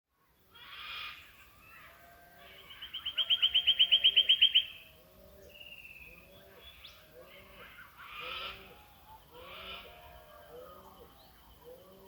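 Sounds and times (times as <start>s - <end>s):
softer lower bird calls: 0.5s - 12.0s.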